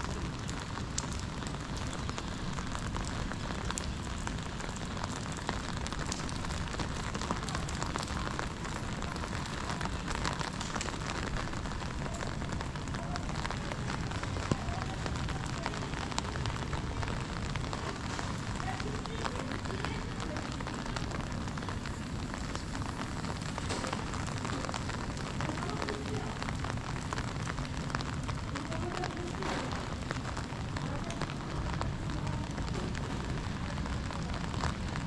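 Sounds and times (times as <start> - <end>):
rain on wet paving: 0.0 - 35.0.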